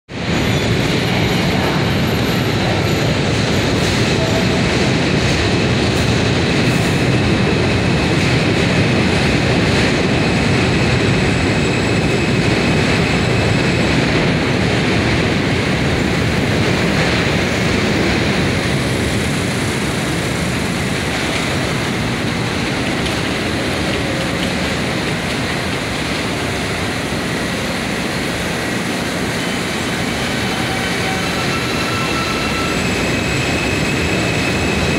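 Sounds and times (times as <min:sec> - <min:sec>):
subway train wheels rumbling on rail: 0:00.1 - 0:34.9.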